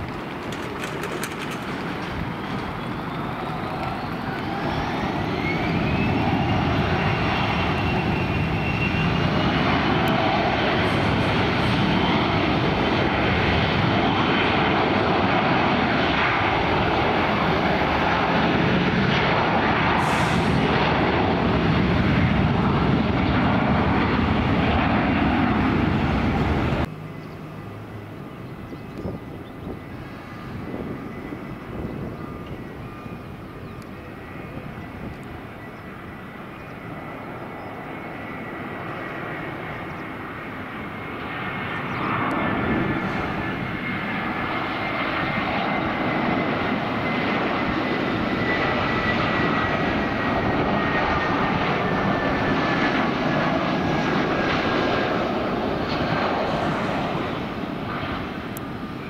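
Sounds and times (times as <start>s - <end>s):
jet engines spooling up: 0.0s - 59.0s.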